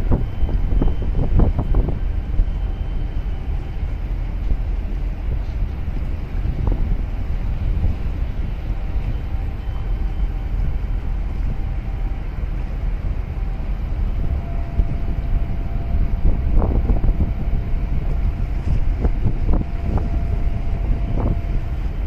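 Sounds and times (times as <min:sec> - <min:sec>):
boat engine low rumble: 0:00.0 - 0:22.0
faint steady hum: 0:00.0 - 0:22.0
wind buffeting microphone: 0:00.0 - 0:22.0.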